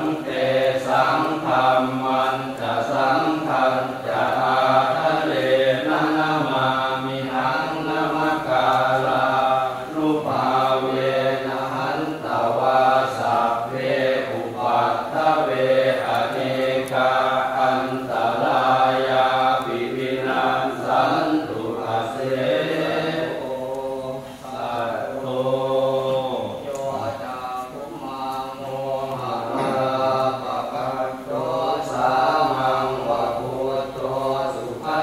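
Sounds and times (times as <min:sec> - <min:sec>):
group chanting in unison: 0:00.0 - 0:35.0.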